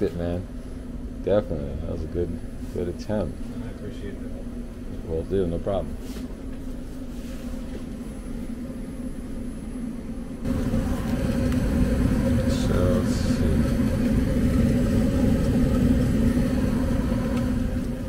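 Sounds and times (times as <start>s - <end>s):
gas furnace running: 0.0s - 18.0s.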